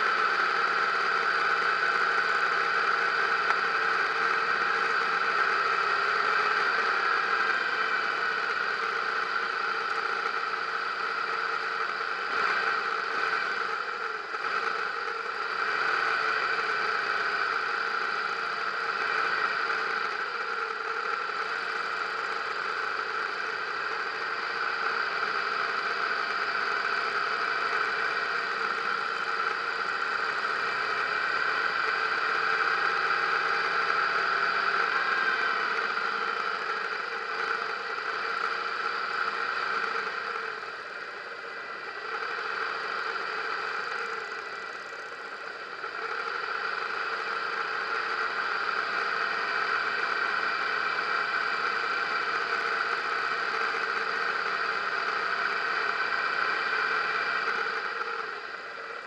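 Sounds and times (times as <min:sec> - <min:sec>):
motorcycle engine running: 0:00.0 - 0:59.0
other motorcycles nearby: 0:00.0 - 0:59.0.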